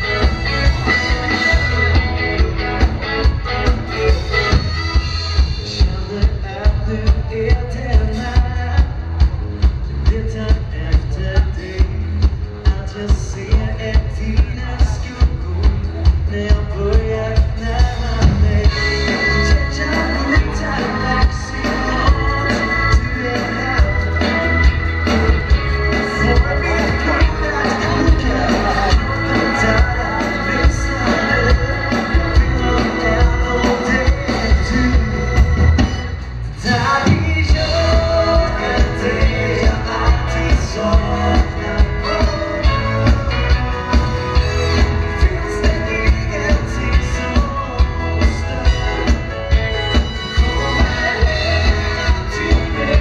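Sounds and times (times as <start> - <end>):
dance band playing live: 0.0 - 53.0
drum kit steady quick beat: 0.0 - 53.0
organ-like keyboard: 0.0 - 53.0.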